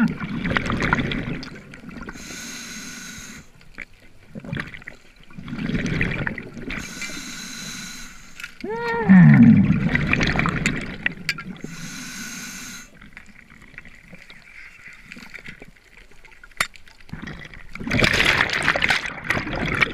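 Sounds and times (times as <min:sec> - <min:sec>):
underwater rush of water: 0:00.0 - 0:19.9.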